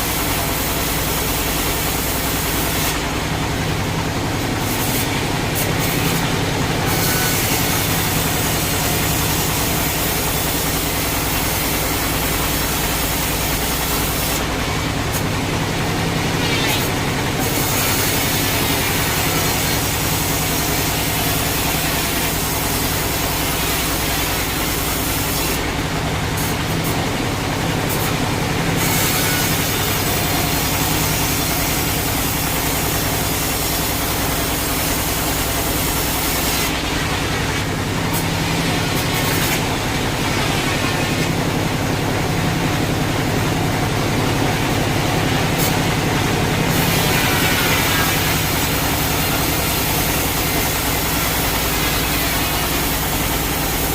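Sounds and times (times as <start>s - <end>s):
loud hissing saw: 0.0s - 53.9s.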